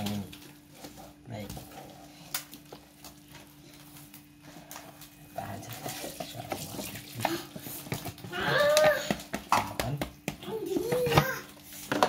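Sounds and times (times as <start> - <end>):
hands kneading sticky dough: 0.0 - 12.0.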